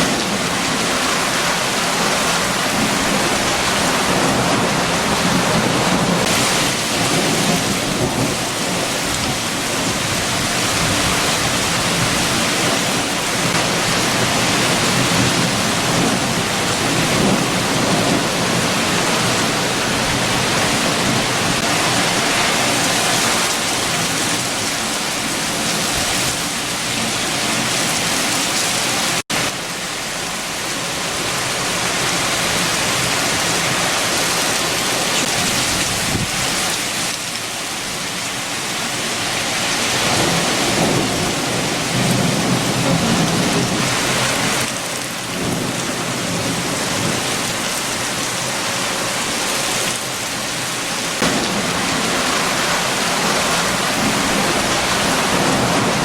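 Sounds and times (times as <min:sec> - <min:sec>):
heavy rain: 0:00.0 - 0:56.0
strong wind: 0:00.0 - 0:56.0.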